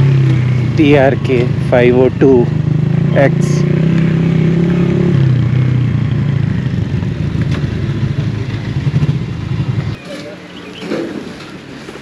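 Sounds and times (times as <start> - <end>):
motorcycle engine at low revs: 0.0 - 11.4.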